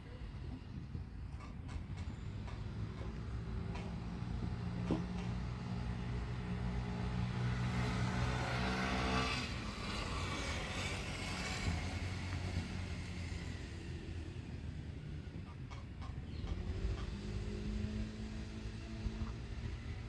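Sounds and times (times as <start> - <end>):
road noise: 0.0 - 20.0
vehicle engine hum passing: 0.1 - 20.0.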